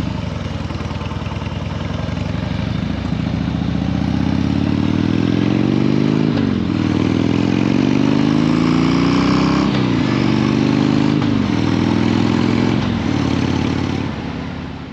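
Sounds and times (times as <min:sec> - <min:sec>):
motorcycle engine revving through gears: 0:00.0 - 0:14.9.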